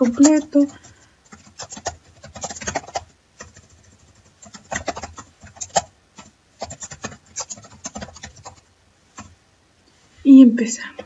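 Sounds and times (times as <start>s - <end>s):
keyboard typing clicks: 0.1s - 9.3s.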